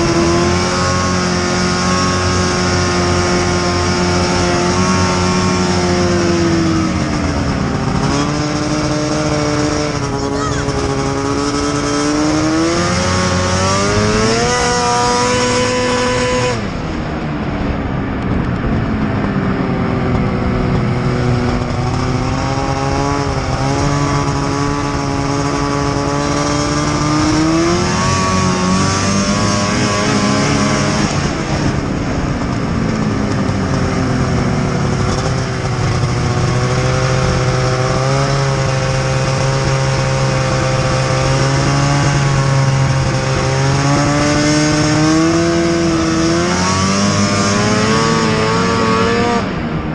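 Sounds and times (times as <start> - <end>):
snowmobile engine revving: 0.0 - 16.9, 19.2 - 49.9.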